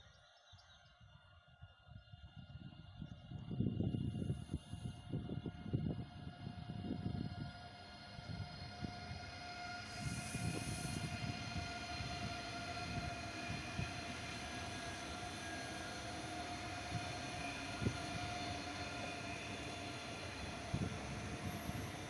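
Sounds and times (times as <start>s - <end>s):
train whine: 0.0s - 22.0s
train wheels rushing on rail: 3.3s - 22.0s.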